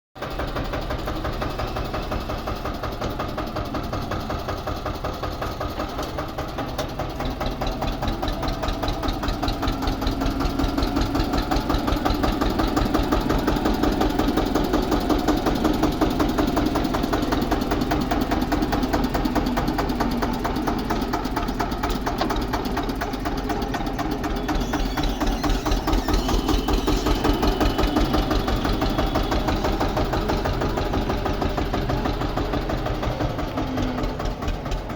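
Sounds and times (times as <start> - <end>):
tractor diesel engine knocking: 0.2 - 34.9.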